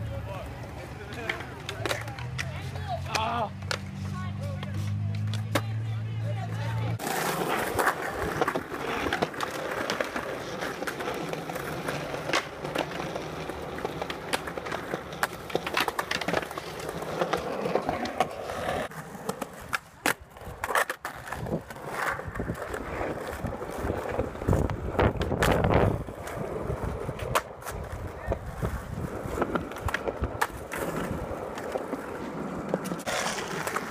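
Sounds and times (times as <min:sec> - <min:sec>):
skateboard wheels rolling on concrete: 0:00.0 - 0:33.9
skateboard clacking: 0:00.2 - 0:33.9
skateboard scraping concrete ledge: 0:00.7 - 0:33.9.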